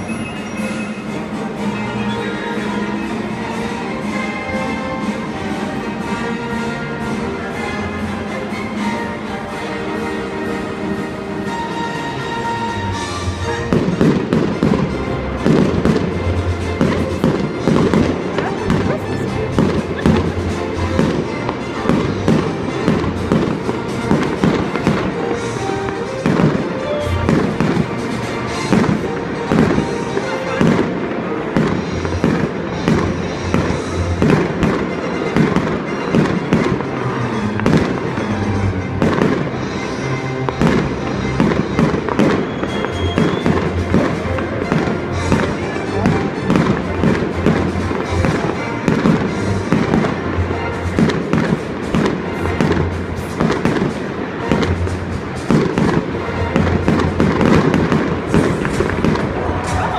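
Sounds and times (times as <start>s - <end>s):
fireworks bangs and crackles: 0.0s - 59.9s
music playing: 0.0s - 59.9s.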